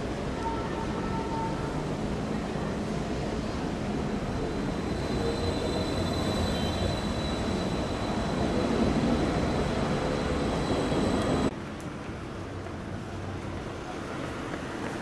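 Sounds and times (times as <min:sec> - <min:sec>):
tram wheels rumbling on rail: 0:00.0 - 0:15.0.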